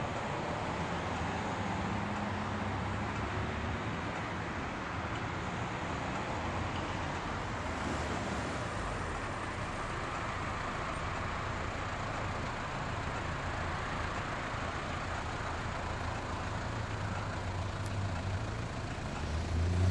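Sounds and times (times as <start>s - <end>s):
passing cars humming: 0.0s - 19.9s.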